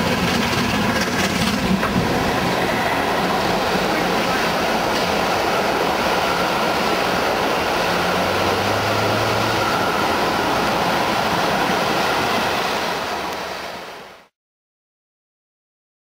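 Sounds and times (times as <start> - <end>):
steam locomotive exhaust rushing: 0.0 - 14.3.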